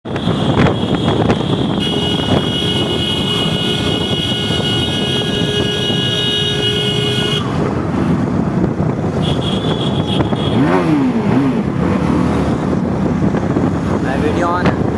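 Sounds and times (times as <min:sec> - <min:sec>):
motorcycle engine: 0:00.0 - 0:14.9
wind rush on microphone: 0:00.0 - 0:14.9.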